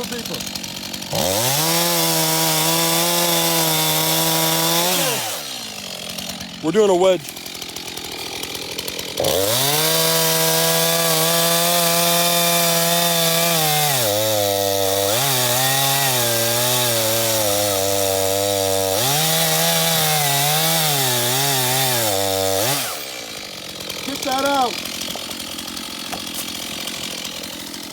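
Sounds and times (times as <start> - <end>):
chainsaw cutting into tree trunk: 0.0 - 27.9.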